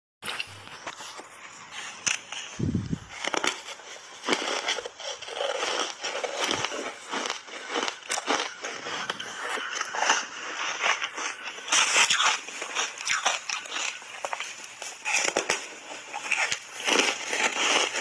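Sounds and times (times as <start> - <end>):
crunchy ice being chewed: 0.3 - 18.0.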